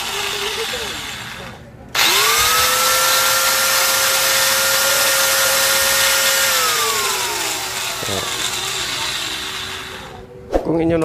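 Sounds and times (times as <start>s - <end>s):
angle grinder motor whine: 0.0s - 10.3s.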